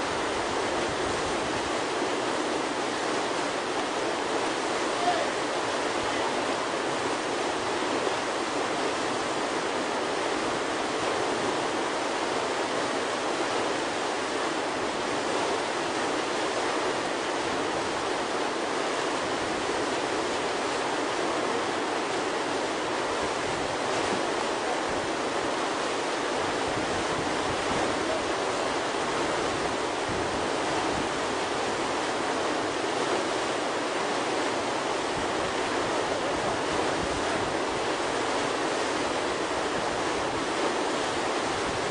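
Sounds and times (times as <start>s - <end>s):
whitewater rushing: 0.0s - 41.9s.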